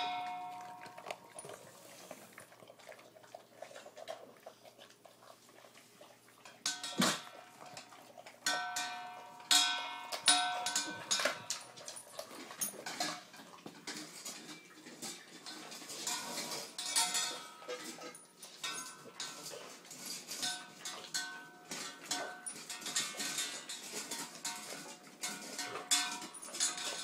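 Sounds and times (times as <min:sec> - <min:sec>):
metal bowl clanging: 0:00.0 - 0:01.5, 0:06.4 - 0:27.0
dogs chewing and licking: 0:00.0 - 0:27.0.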